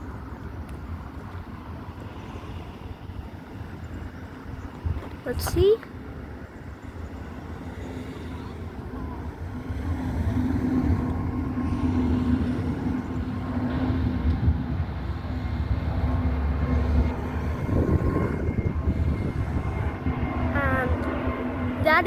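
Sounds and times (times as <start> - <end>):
jet engines on takeoff: 0.0 - 22.0.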